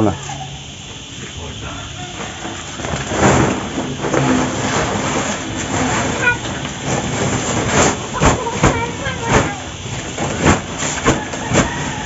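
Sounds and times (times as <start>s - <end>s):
dry seaweed rustling in sack: 2.0s - 12.0s.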